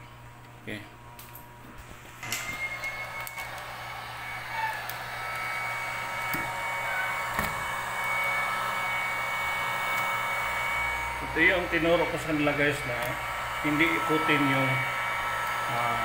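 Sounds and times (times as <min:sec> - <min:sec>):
hot-air blower whining: 0:00.0 - 0:16.0.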